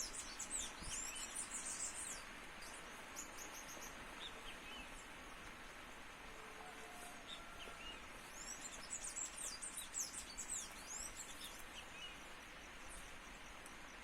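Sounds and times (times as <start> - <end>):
outdoor background noise: 0.0 - 14.0
small birds twittering: 0.0 - 14.0.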